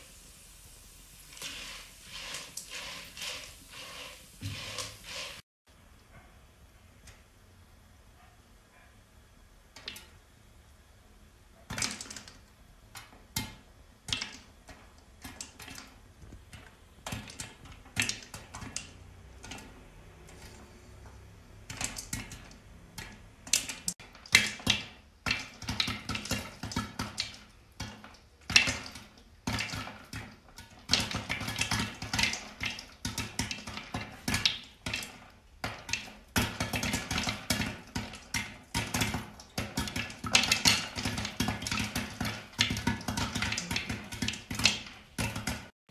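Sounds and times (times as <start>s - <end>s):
popcorn popping in a pan: 0.0s - 5.4s, 9.6s - 10.4s, 11.6s - 45.8s.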